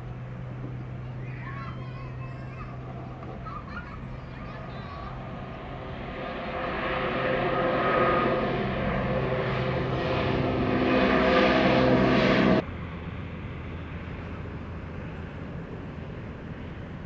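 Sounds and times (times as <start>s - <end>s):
turboprop aircraft drone: 0.0s - 17.0s.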